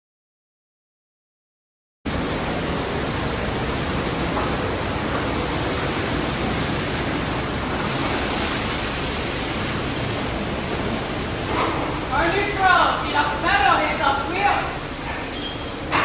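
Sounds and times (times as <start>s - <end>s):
car wash water jets and machinery: 2.1s - 16.0s.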